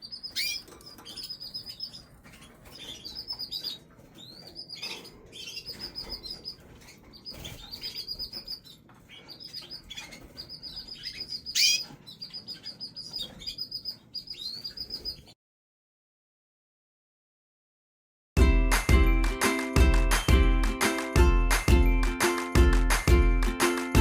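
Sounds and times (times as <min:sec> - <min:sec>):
canaries chirping and trilling: 0:00.0 - 0:15.4, 0:18.4 - 0:24.0.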